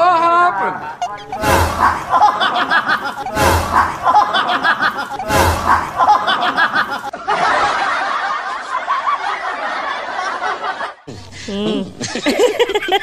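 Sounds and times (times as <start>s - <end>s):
steady laughter: 0.9s - 13.0s
snickering laughter: 1.8s - 13.0s.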